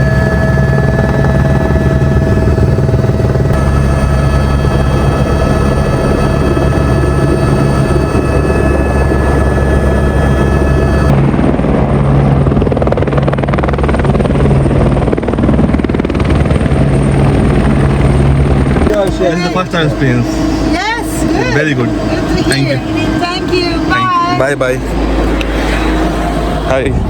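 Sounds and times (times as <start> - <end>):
helicopter engine whine: 0.0 - 27.0
helicopter rotor noise: 0.0 - 27.0.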